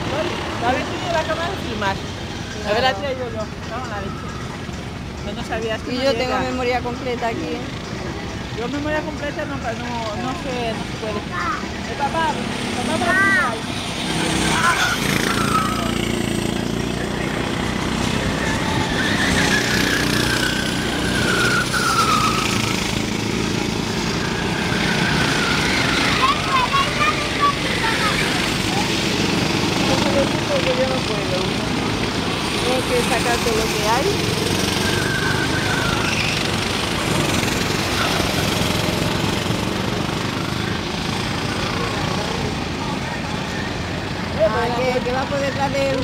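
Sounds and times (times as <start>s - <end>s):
go-kart engines racing past: 0.0s - 46.0s
high engine whine: 0.0s - 46.0s.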